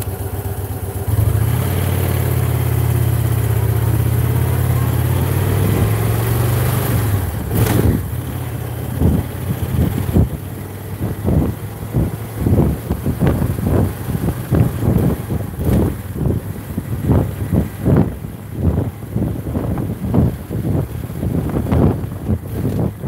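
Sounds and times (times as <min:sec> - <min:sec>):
motorcycle engine running: 0:00.0 - 0:23.0
wind buffeting microphone: 0:03.9 - 0:23.0.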